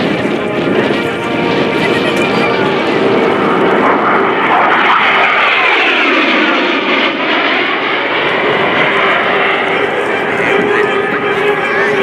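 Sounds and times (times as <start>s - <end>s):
jet flying by: 0.0s - 12.0s.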